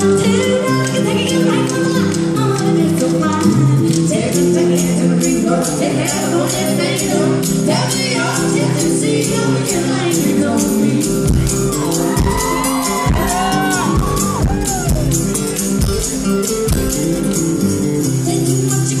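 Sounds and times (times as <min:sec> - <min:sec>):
woman singing: 0:00.0 - 0:14.5, 0:18.0 - 0:19.0
drums keeping a beat: 0:00.0 - 0:19.0
strummed acoustic guitar: 0:00.0 - 0:19.0.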